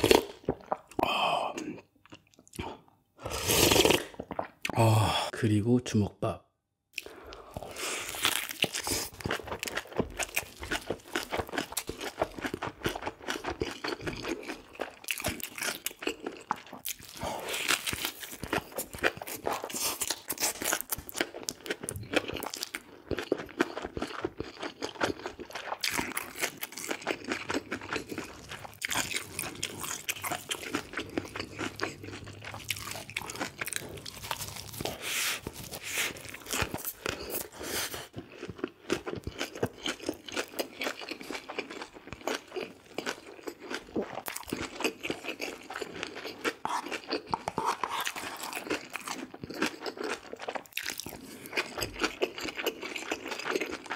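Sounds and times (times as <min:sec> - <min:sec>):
person chewing food: 0:00.0 - 0:04.8, 0:06.9 - 0:53.9.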